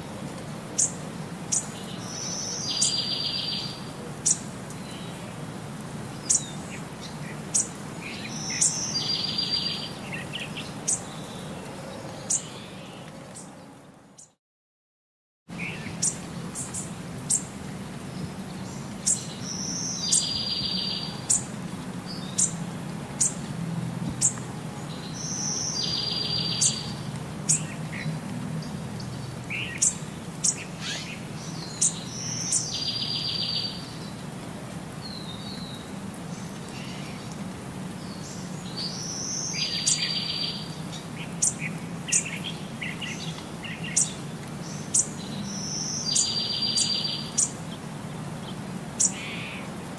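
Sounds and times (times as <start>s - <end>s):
birds chirping: 0.8s - 5.3s, 6.1s - 14.4s, 15.6s - 23.4s, 24.0s - 34.2s, 35.0s - 49.7s.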